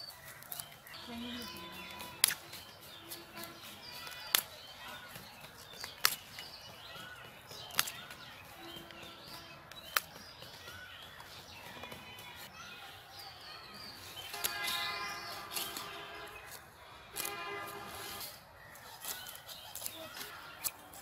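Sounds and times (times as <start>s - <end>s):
small birds chirping: 0.0s - 21.0s
cauliflower stalks snapping: 0.1s - 12.4s, 14.2s - 21.0s.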